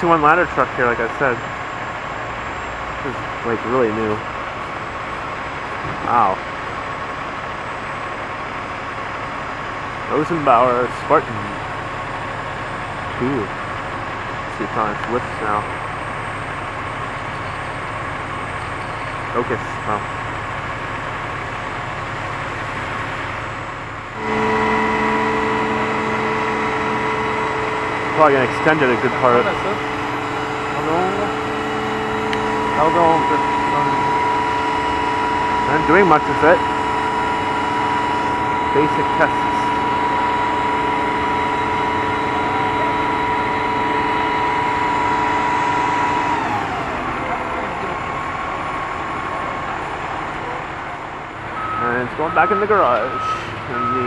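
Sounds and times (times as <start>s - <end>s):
diesel engine idling: 0.0s - 54.0s
hydraulic whine: 9.1s - 54.0s.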